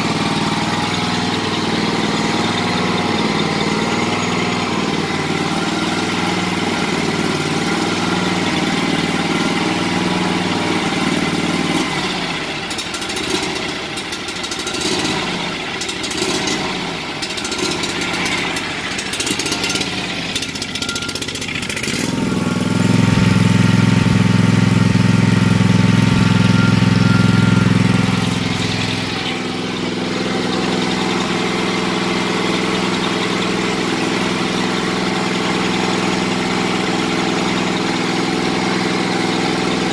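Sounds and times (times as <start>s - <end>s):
mower engine idling: 0.0s - 39.9s.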